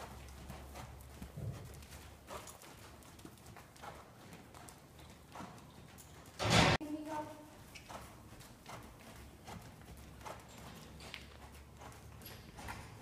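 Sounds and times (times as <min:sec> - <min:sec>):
horse hoofbeats on soft dirt: 0:00.0 - 0:13.0.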